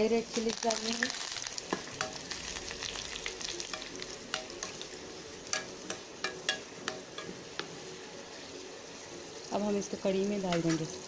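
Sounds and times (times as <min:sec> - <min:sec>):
hot oil sizzling in a frying pan: 0:00.0 - 0:11.0.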